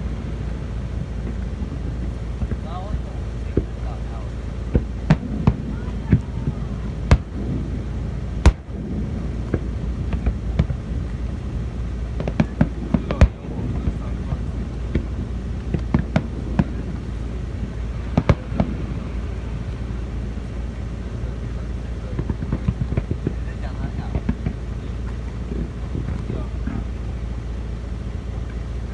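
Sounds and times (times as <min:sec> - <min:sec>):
fireworks bangs: 0:00.0 - 0:28.9
fireworks crackles: 0:00.0 - 0:28.9
low rumble: 0:00.0 - 0:28.9.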